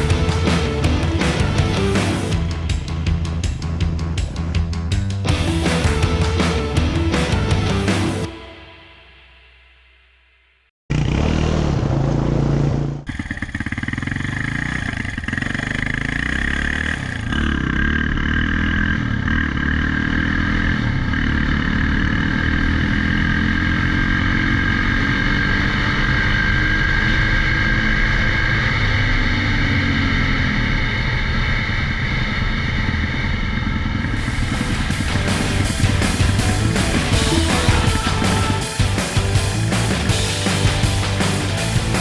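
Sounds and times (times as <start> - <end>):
quad engine revving: 0.0 - 4.6, 10.9 - 32.1, 34.0 - 42.0.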